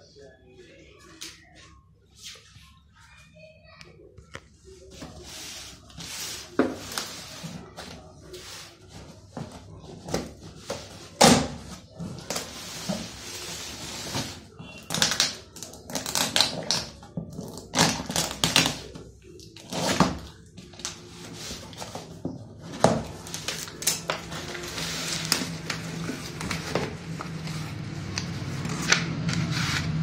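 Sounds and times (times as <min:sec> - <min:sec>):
paper and plastic rustling: 0:04.8 - 0:30.0.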